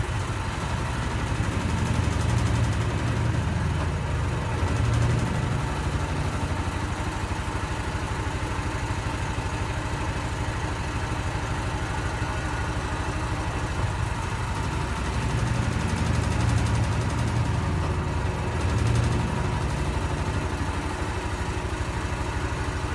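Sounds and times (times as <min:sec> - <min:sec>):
washing machine humming and rattling: 0:00.0 - 0:22.9.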